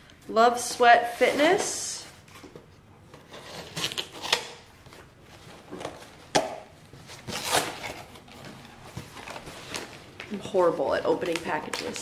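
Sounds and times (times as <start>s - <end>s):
packaging rustling and scraping: 1.0s - 12.0s.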